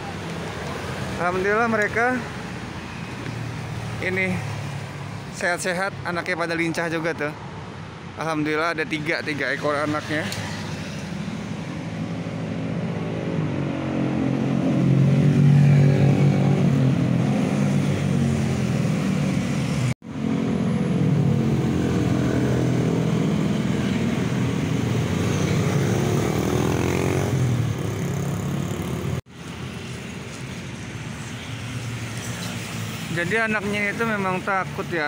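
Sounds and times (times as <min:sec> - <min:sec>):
vehicle engines passing: 0:00.0 - 0:35.0.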